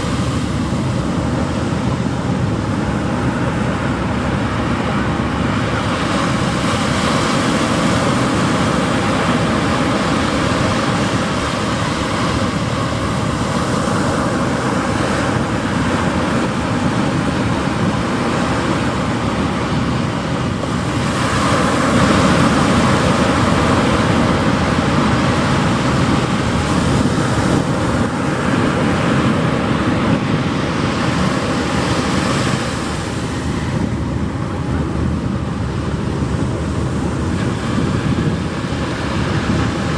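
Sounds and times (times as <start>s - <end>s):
surf washing onto beach: 0.0s - 39.9s.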